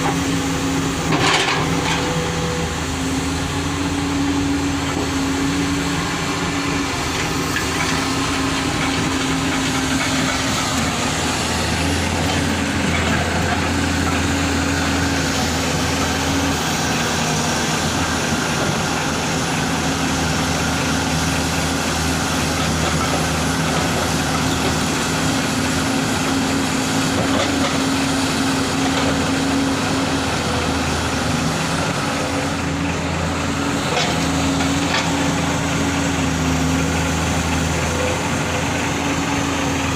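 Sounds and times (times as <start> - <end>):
excavator diesel engine humming: 0.0 - 39.9.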